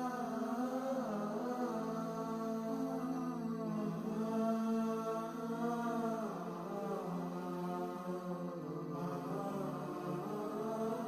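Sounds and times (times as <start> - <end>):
slow drone-like music: 0.0 - 11.0.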